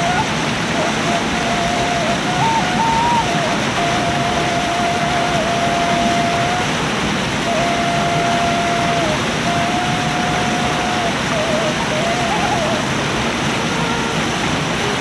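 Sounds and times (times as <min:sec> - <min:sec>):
thin whistle-like tone: 0:00.0 - 0:06.8, 0:07.4 - 0:12.9
flowing water rushing: 0:00.0 - 0:15.0.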